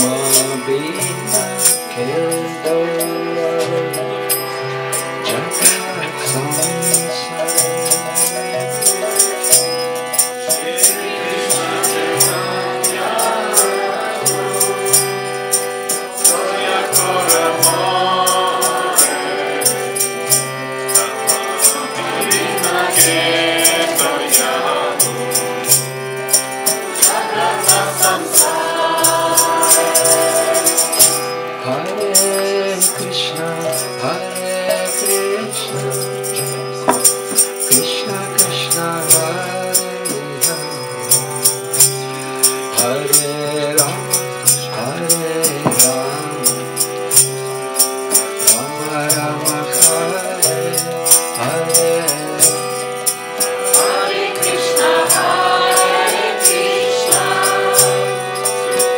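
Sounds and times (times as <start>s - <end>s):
hand cymbals clashing: 0.0s - 58.9s
harmonium chords and melody: 0.0s - 58.9s
voices singing: 0.0s - 58.9s.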